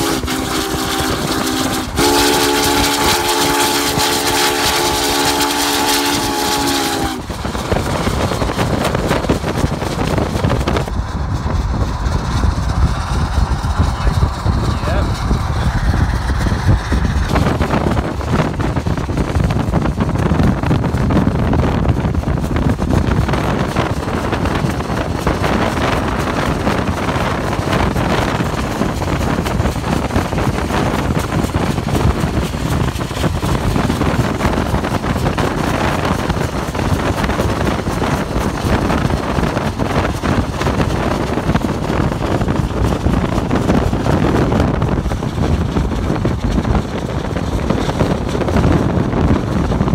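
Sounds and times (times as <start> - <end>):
car road noise: 0.0 - 49.9
wind rush on microphone: 0.0 - 49.9.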